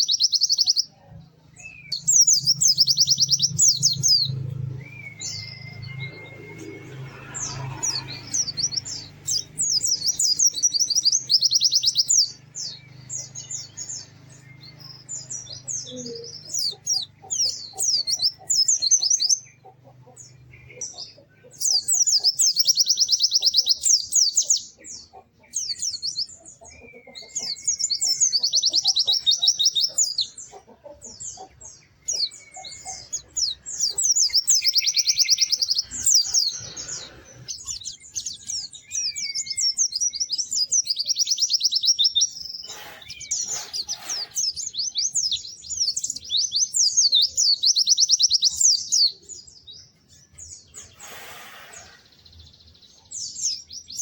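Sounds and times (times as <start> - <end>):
bird chattering trills: 1.6 - 52.7.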